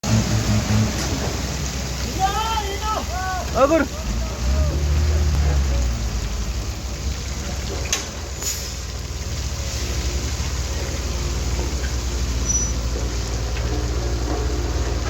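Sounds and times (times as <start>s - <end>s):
vibratory road roller running: 0.0s - 15.0s.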